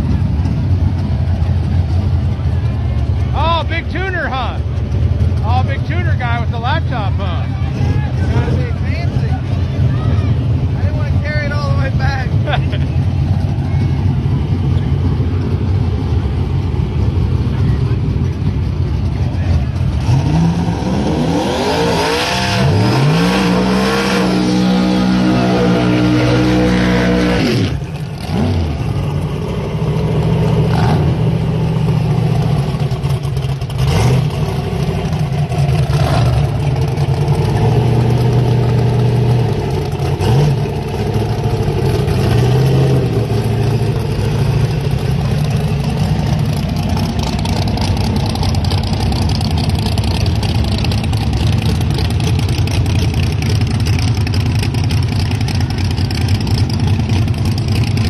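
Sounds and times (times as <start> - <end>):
truck engines idling loudly: 0.0 - 21.1, 22.6 - 58.0
engine throttle blips: 0.0 - 58.0.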